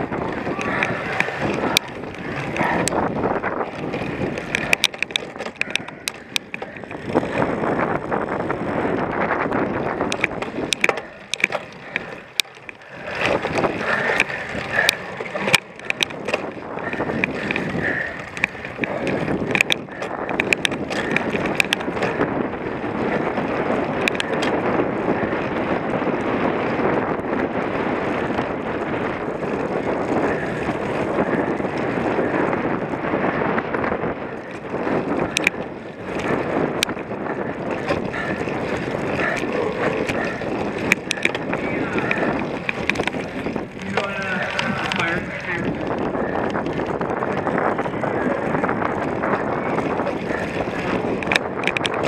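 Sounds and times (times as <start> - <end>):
bike clicks and rattles: 0.0 - 52.0
bike tyres rolling on dirt: 0.0 - 52.0
wind on microphone: 0.0 - 52.0.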